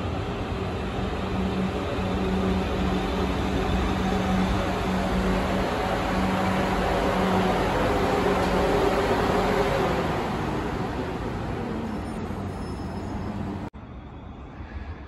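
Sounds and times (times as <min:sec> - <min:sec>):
electric train slowing to a stop: 0:00.0 - 0:15.0.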